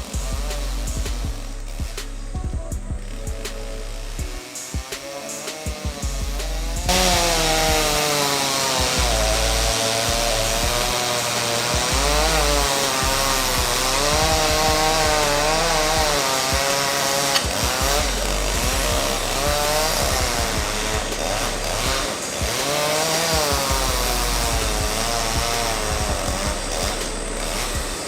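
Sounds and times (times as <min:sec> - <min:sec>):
chainsaw cutting wood: 0:00.0 - 0:02.4, 0:03.0 - 0:28.0.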